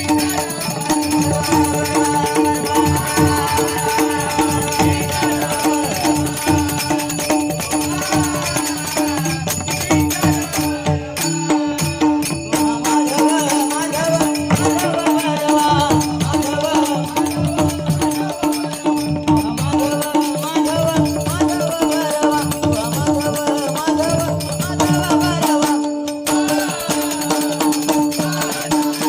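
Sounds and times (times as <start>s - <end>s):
drum beat: 0.0s - 29.0s
jingling hand cymbals: 0.0s - 29.0s.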